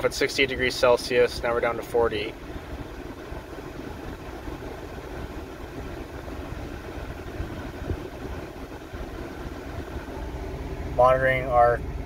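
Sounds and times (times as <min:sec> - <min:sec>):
air-conditioning blower: 0:00.0 - 0:12.0
pickup engine idling: 0:00.0 - 0:12.0.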